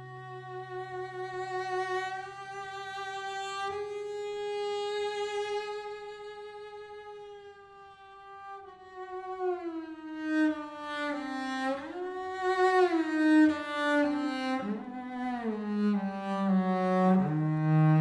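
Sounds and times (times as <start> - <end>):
solo bowed string melody: 0.0 - 18.0.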